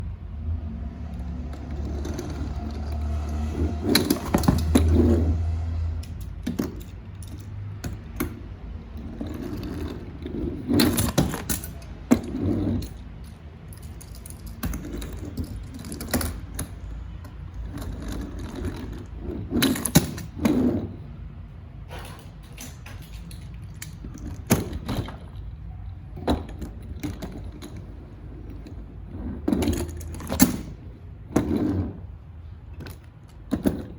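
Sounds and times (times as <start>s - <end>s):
metal toy cars clattering: 1.1s - 21.1s, 21.8s - 33.9s.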